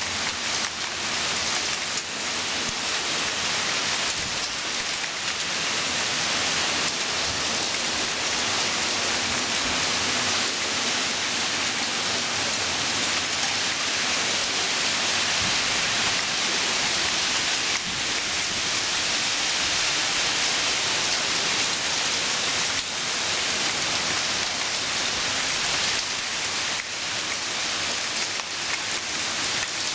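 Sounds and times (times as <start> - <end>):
heavy rain on pavement: 0.0 - 29.9.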